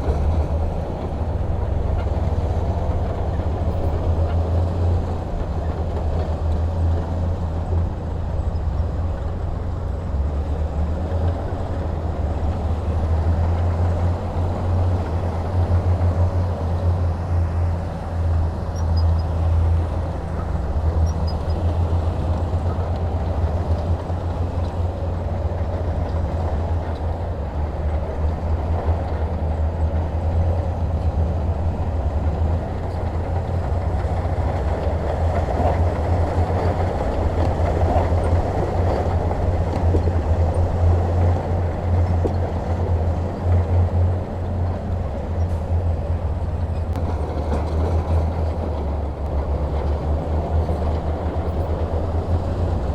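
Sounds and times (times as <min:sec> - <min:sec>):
diesel machinery engine rumble: 0:00.0 - 0:52.9.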